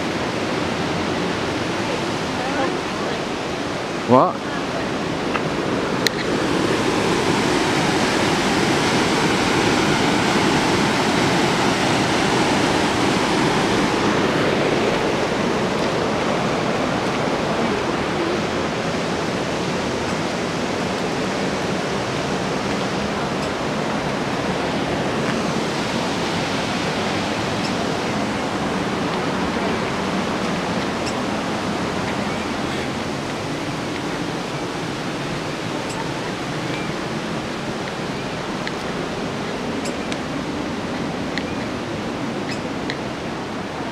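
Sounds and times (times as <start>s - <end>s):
rushing white water: 0.0s - 43.9s.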